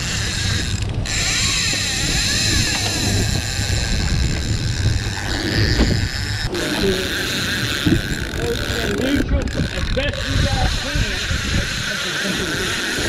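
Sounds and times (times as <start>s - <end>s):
outboard motors droning: 0.0s - 13.0s.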